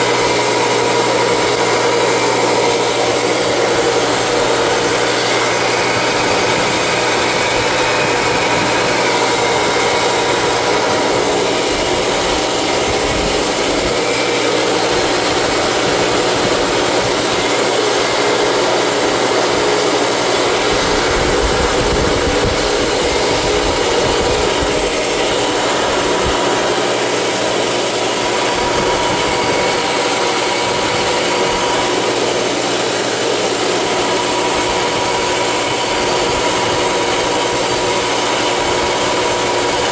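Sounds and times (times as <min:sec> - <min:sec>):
electric motor running steadily: 0:00.0 - 0:39.9.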